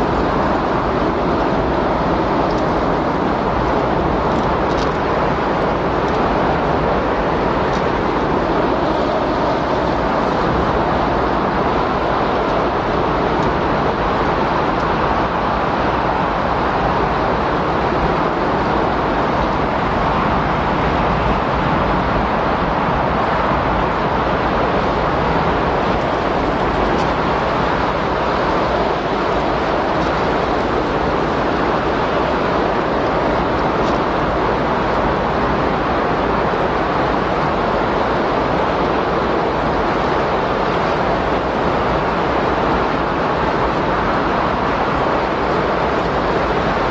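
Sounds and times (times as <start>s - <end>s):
strong wind rushing: 0.0s - 46.9s.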